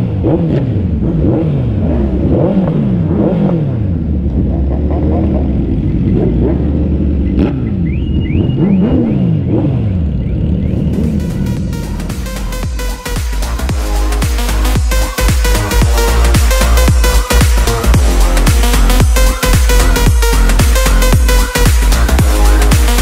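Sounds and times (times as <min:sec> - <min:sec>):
motorcycle engines revving: 0:00.0 - 0:23.0
motorcycles idling: 0:00.8 - 0:23.0.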